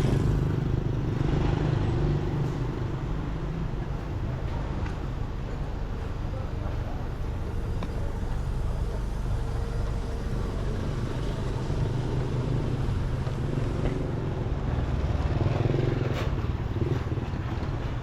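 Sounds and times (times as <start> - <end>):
noisy background: 0.0 - 18.0
vehicle engine rumble: 0.0 - 18.0.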